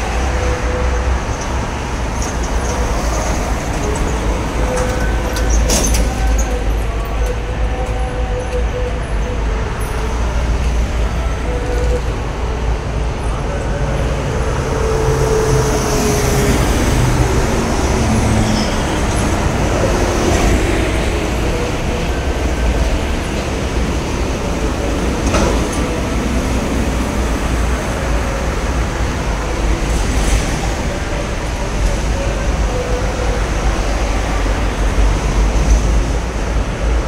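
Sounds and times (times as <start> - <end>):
heavy traffic rumble: 0.0 - 37.0.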